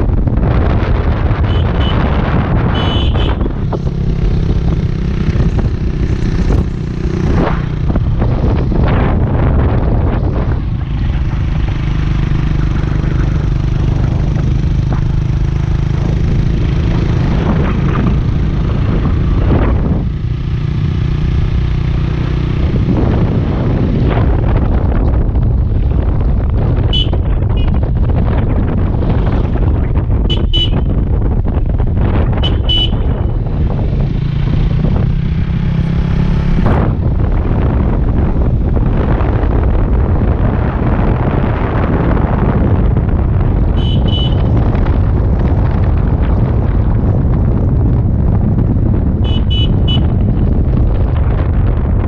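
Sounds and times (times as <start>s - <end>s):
motorcycle engine cruising: 0.0s - 52.0s
wind noise on microphone: 0.0s - 52.0s.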